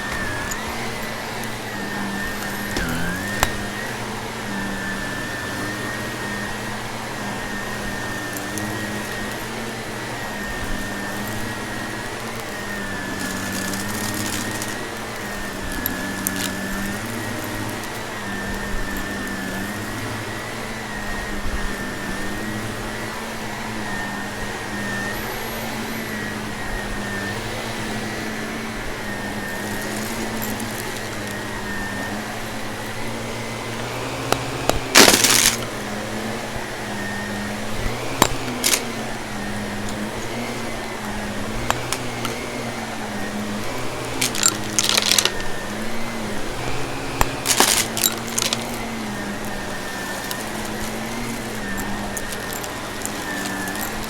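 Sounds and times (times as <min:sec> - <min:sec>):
debris crunching in vacuum: 0:00.0 - 0:20.0, 0:27.9 - 0:54.0
vacuum cleaner running: 0:00.0 - 0:54.0.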